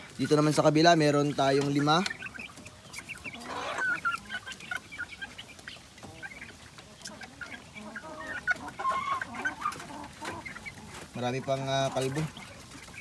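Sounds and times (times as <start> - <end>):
chicks peeping and clucking: 0.0 - 13.0.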